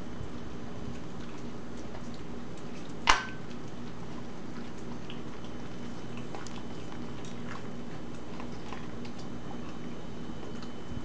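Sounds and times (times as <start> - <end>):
steady low hum: 0.0 - 11.0
dog chewing and licking: 0.1 - 11.0.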